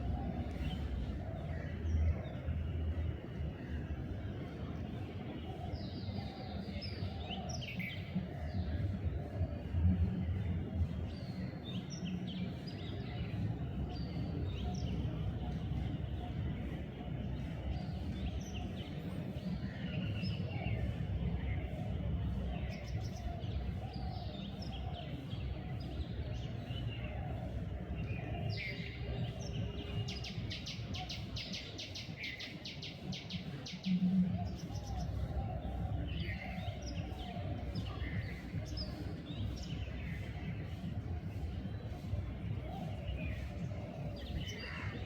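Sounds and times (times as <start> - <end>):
birds chirping and whistling: 0.0 - 45.0
rapid repeated bird notes: 0.0 - 45.0.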